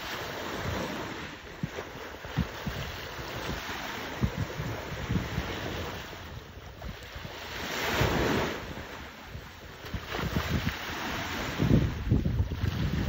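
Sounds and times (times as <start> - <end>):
sea waves washing: 0.0 - 13.0
wind buffeting microphone: 0.0 - 13.0.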